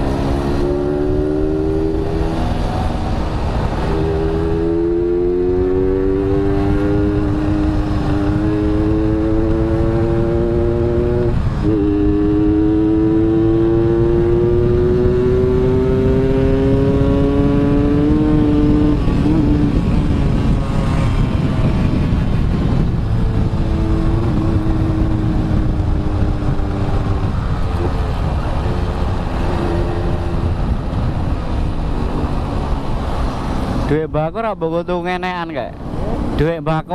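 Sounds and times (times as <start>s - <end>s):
motorcycle engine accelerating: 0.0s - 34.1s
wind and road noise: 0.0s - 36.9s.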